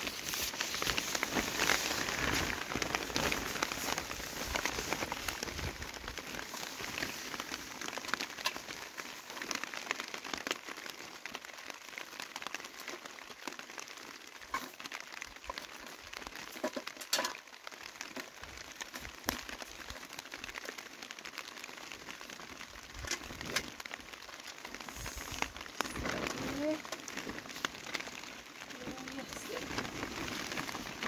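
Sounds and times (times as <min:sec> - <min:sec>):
rain pattering on tent fabric: 0:00.0 - 0:31.0.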